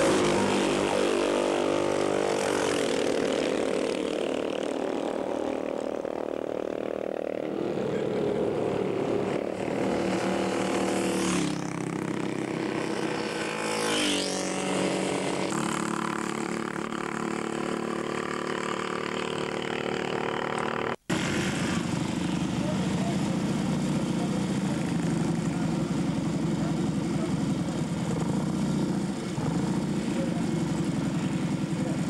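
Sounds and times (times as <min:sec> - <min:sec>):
motorcycle passing by: 0:00.0 - 0:32.0
racing motorcycle engines: 0:00.0 - 0:32.0.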